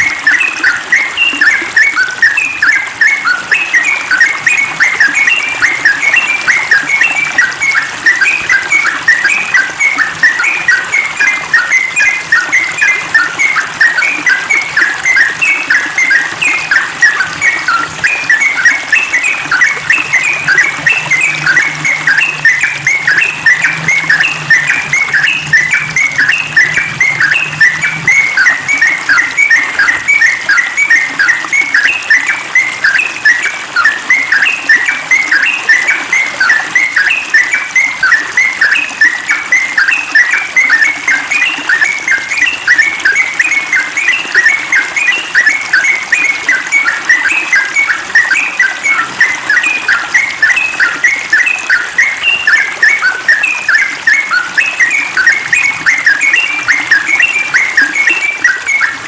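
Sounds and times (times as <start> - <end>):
bird singing bubbly notes: 0.0 - 59.0.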